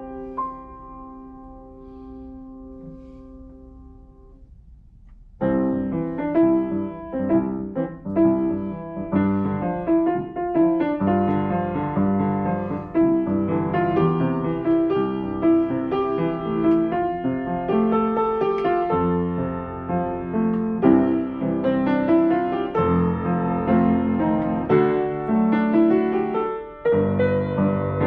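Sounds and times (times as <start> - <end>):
solo piano show tune: 0.0 - 28.0.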